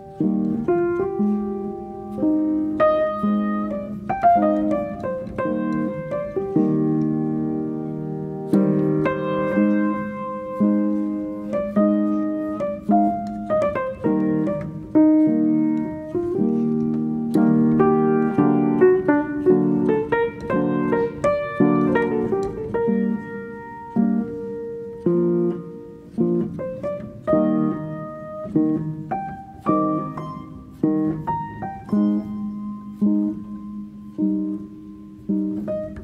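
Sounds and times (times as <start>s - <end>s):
piano notes and chords: 0.0s - 36.0s.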